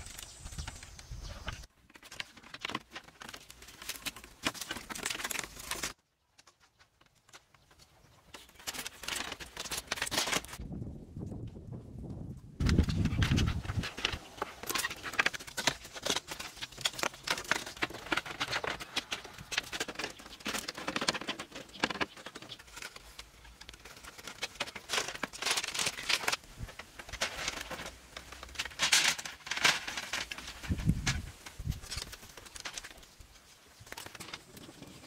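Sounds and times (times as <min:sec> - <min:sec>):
bamboo clicks and knocks: 0:00.0 - 0:10.6, 0:12.6 - 0:35.0.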